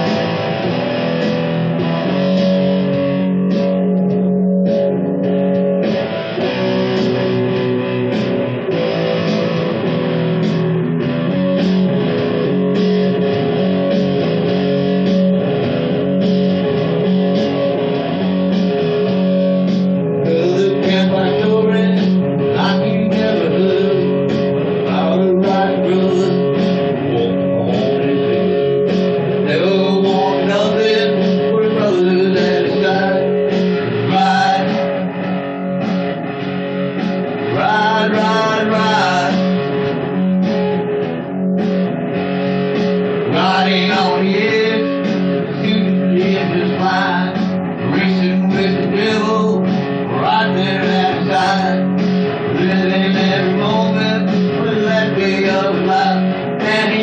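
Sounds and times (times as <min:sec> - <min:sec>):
guitar music: 0:00.0 - 0:57.0.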